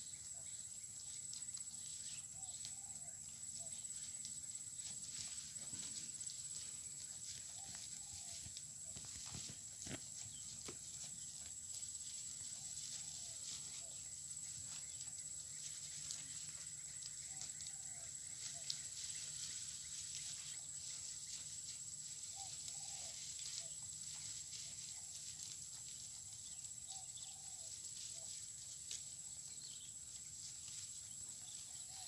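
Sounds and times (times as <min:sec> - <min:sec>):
hooves stepping: 0:00.4 - 0:32.0
goats tearing and chewing grass: 0:00.6 - 0:31.7.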